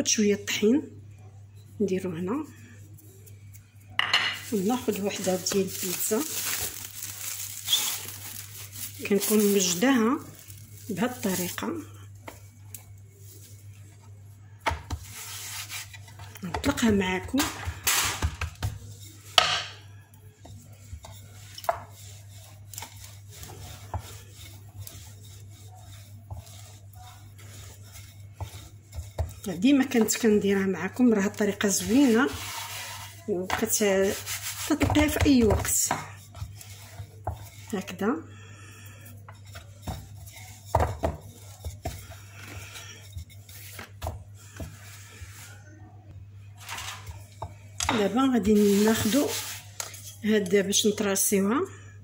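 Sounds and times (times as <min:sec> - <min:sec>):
rolling pin rolling over dough: 0:01.8 - 0:45.9, 0:46.5 - 0:50.9.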